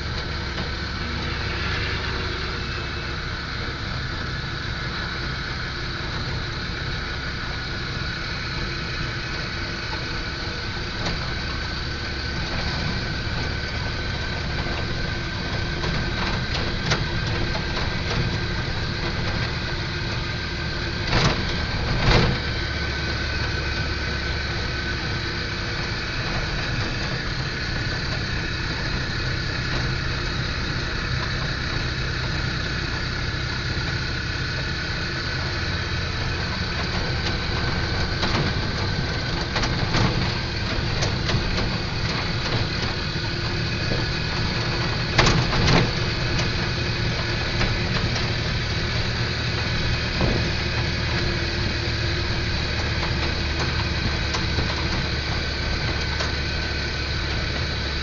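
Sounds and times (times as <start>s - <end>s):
car engine and road noise: 0.0s - 58.0s
constant whine: 0.0s - 58.0s.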